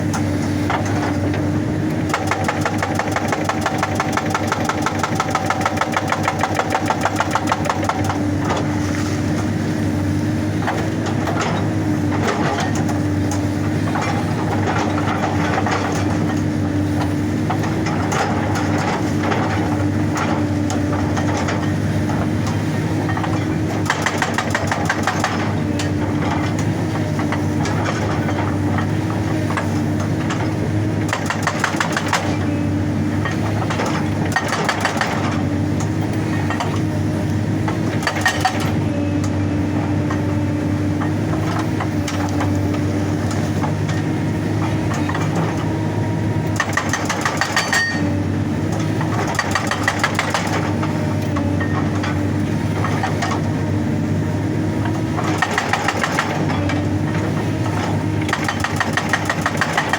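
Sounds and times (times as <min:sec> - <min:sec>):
hydraulic rock breaker hammering: 0:00.0 - 0:09.6, 0:10.5 - 0:59.9
diesel engine running: 0:00.0 - 0:59.9.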